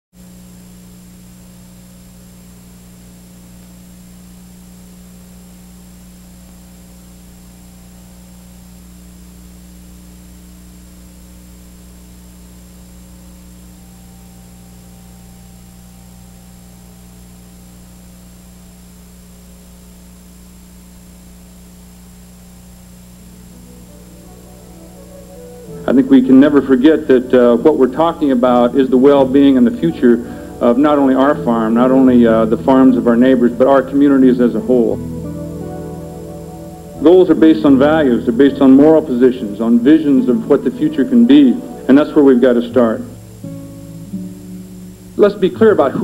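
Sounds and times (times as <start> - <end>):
electrical mains hum: 0.1 - 46.0
faint hiss: 0.2 - 46.0.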